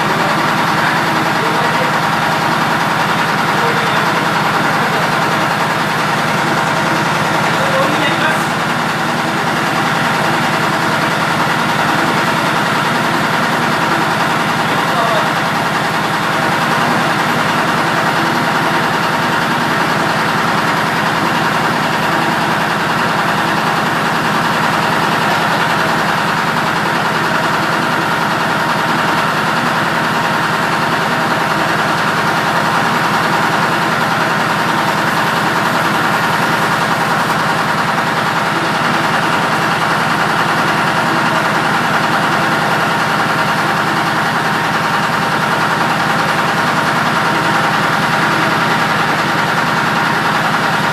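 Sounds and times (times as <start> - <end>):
heavy engine idling: 0.0 - 50.9.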